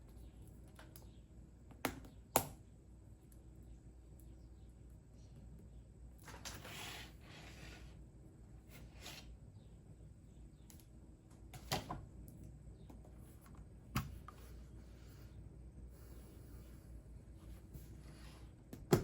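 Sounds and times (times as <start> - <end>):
faint low room hum: 0.0 - 19.0.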